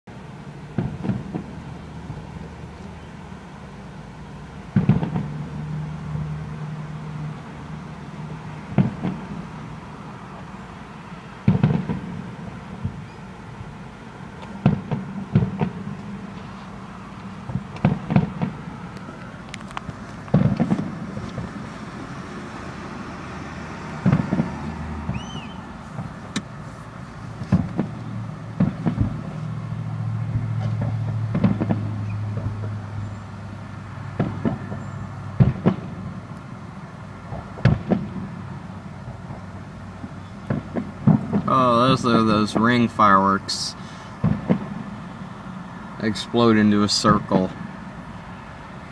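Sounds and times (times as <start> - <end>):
distant fireworks bangs: 0.6 - 2.7, 4.6 - 46.3.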